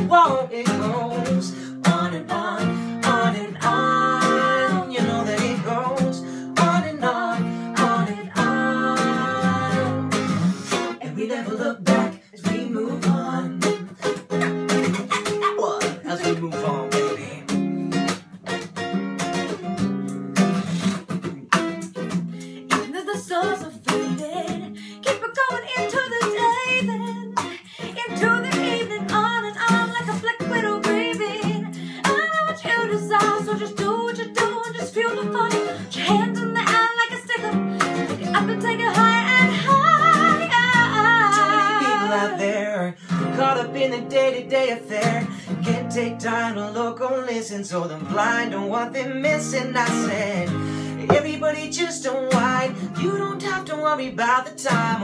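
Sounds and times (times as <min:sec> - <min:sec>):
person singing: 0:00.0 - 0:17.6, 0:22.5 - 0:55.0
acoustic guitar strumming chords: 0:00.0 - 0:55.0.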